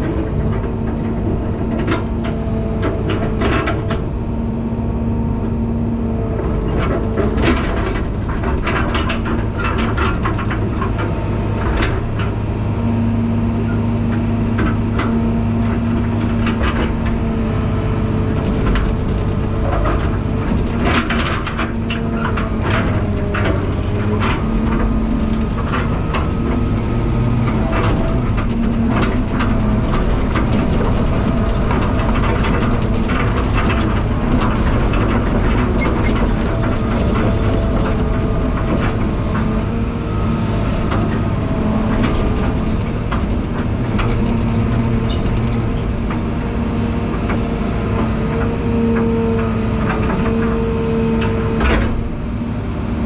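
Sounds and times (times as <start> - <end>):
clanks and rattles: 0.0 - 4.2, 6.2 - 12.6, 13.7 - 52.2
heavy machine engine running: 0.0 - 53.0.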